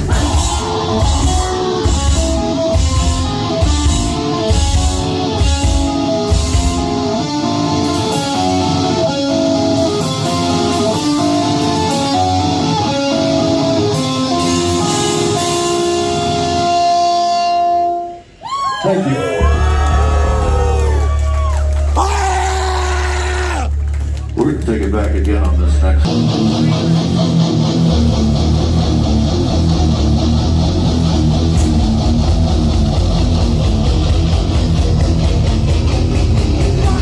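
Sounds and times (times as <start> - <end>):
heavy drums: 0.0 - 17.0, 19.4 - 24.2, 26.0 - 37.0
electric guitar melody: 0.0 - 18.4, 25.5 - 37.0
bass guitar: 0.0 - 18.5, 19.2 - 37.0.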